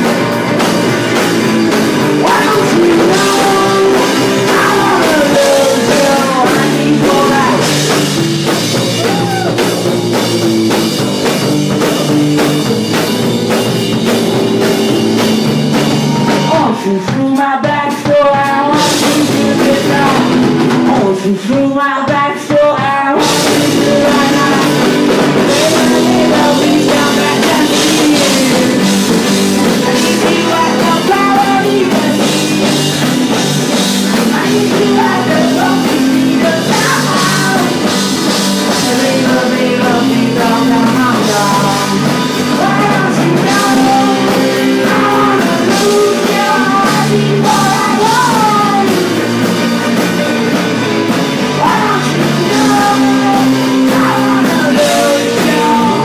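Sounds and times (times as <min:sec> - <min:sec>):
person singing: 0:00.0 - 0:10.3, 0:14.3 - 0:56.0
drums: 0:00.0 - 0:56.0
rock band playing live: 0:00.0 - 0:56.0.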